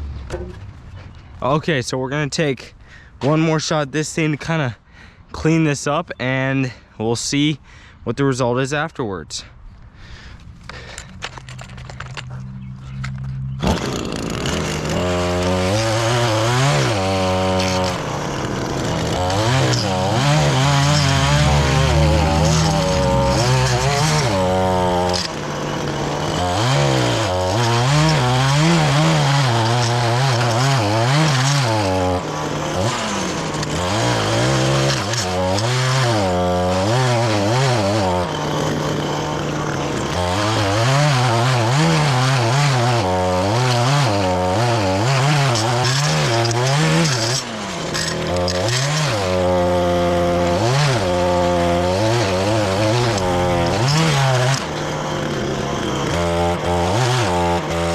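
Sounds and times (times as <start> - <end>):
blade cutting lawn edge: 10.7 - 57.9
two-stroke edger revving: 10.8 - 57.9.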